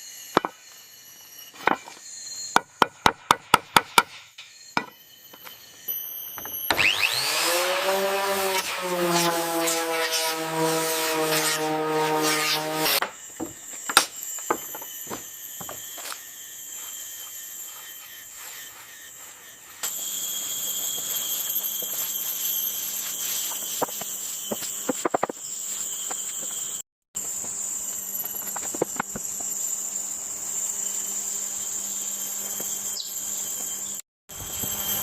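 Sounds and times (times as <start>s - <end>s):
insects chirping: 0.0s - 7.2s, 13.0s - 35.0s
power tool humming: 5.5s - 35.0s.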